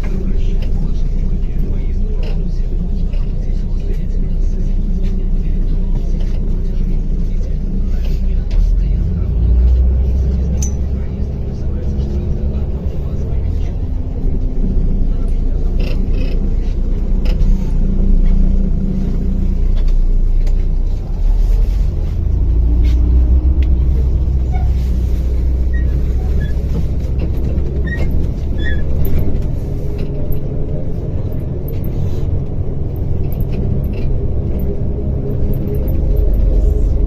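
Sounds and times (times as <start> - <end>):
bus diesel engine: 0.0 - 37.0.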